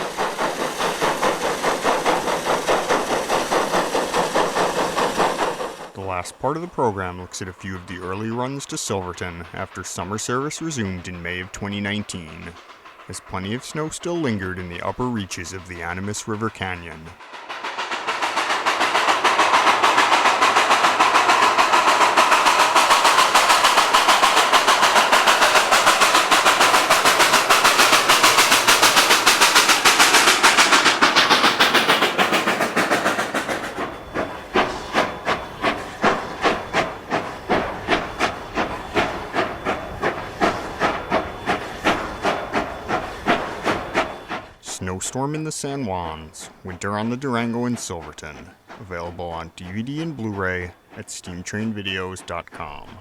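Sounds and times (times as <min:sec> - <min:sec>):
steam hissing: 0:00.0 - 0:53.0
steam locomotive exhaust chuffs: 0:00.0 - 0:53.0.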